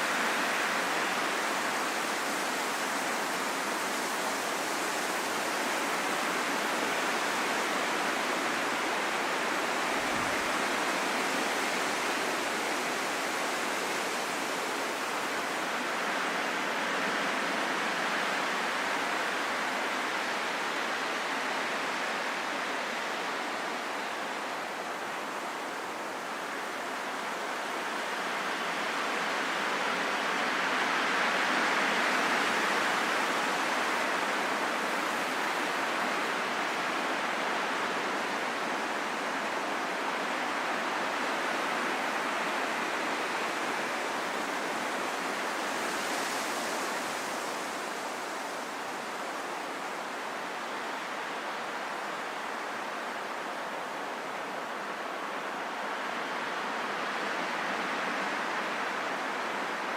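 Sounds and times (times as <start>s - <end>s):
steady wind hiss: 0.0s - 59.9s.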